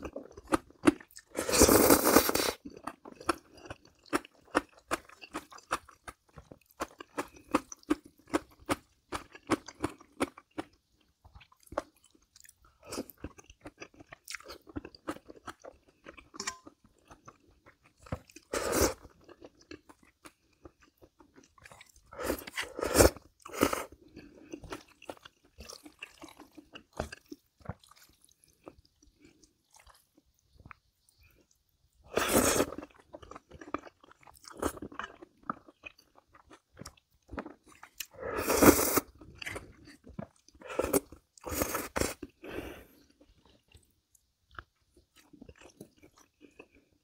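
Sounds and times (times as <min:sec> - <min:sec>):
person chewing crunchy food: 0:00.0 - 0:47.0.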